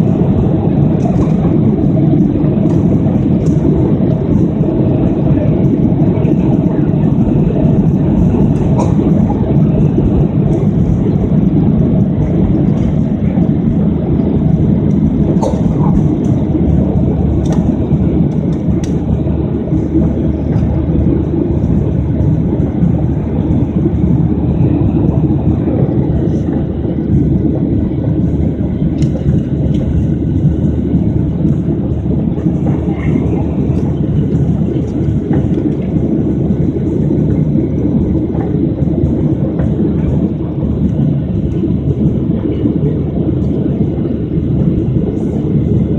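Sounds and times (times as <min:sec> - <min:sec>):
jet engine roar in cabin: 0:00.0 - 0:45.9.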